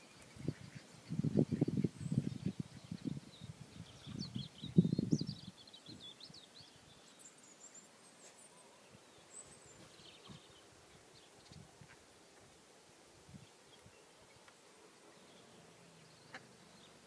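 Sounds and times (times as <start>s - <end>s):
small birds chirping: 0.0s - 12.6s, 13.3s - 17.0s.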